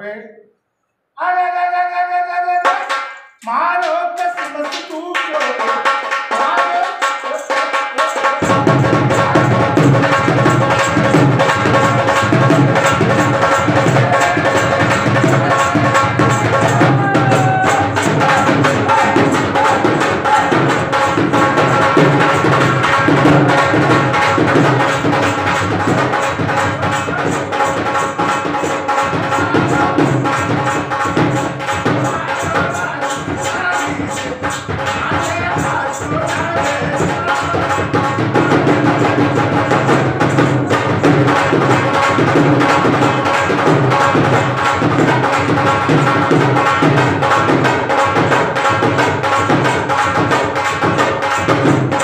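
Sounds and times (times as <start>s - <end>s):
hand drum rhythm: 4.1s - 52.0s.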